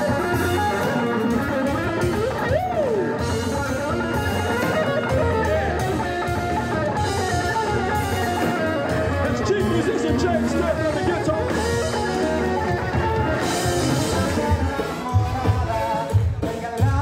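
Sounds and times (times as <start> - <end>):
electric guitar: 0.0 - 17.0
live band music: 0.0 - 17.0.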